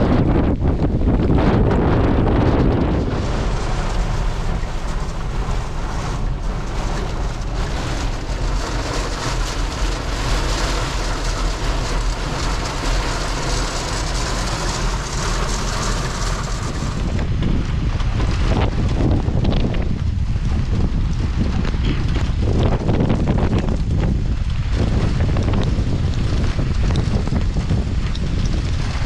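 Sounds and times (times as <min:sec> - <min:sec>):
low rumble: 0:00.0 - 0:29.0
wind buffeting microphone: 0:00.0 - 0:29.0.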